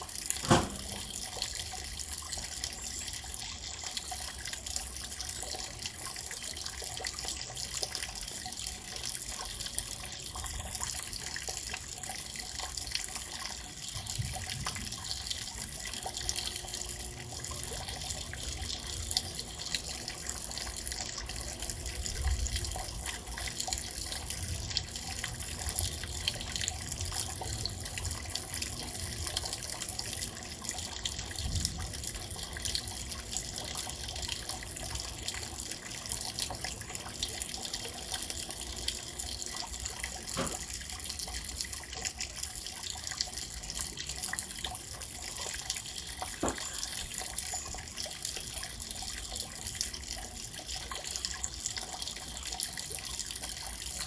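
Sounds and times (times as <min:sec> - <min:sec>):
water drips ticking: 0:00.0 - 0:54.0.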